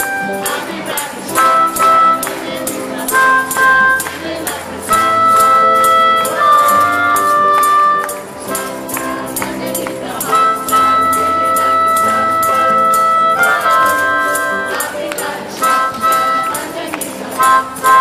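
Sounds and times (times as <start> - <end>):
group of adults singing: 0.0 - 18.0
guitars: 0.0 - 18.0
live band playing: 0.0 - 18.0.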